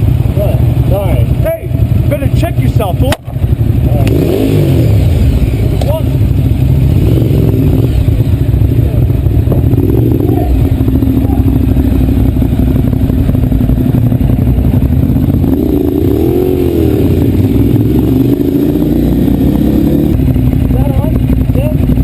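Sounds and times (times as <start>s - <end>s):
motorcycle engine revving: 0.0s - 22.0s
motorcycle engine running: 0.0s - 22.0s.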